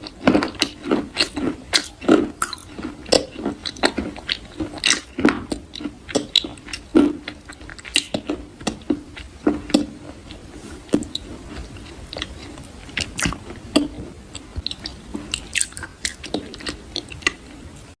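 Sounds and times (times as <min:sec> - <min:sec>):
mouth chewing something crisp: 0:00.0 - 0:17.9.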